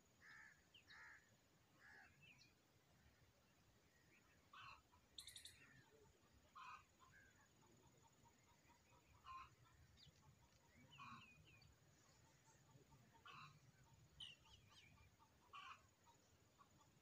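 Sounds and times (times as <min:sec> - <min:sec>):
faint bird calls: 0:00.1 - 0:03.2, 0:03.9 - 0:17.0.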